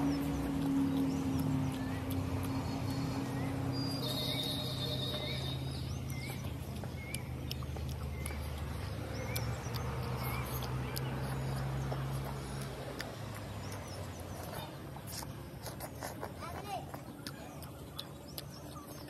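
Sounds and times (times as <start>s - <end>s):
birds chirping: 0.0s - 19.0s
chewing and wet mouth clicks: 0.0s - 19.0s.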